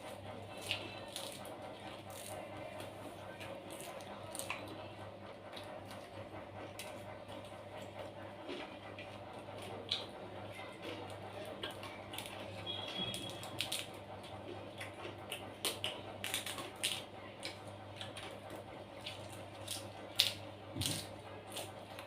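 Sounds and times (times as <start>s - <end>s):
crunchy food being chewed: 0.1s - 4.8s, 5.5s - 22.0s.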